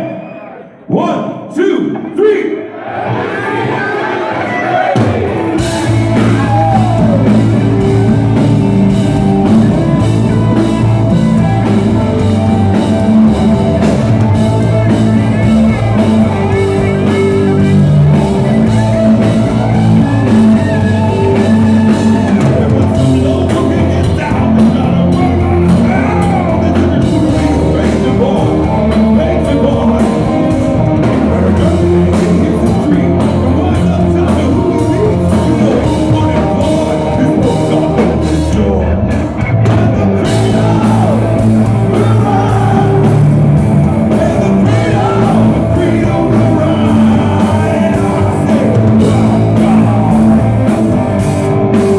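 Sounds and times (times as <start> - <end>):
keyboards: 3.0 - 51.9
drum kit: 4.8 - 51.9
man singing: 4.8 - 51.9
distorted electric guitar: 5.0 - 51.9.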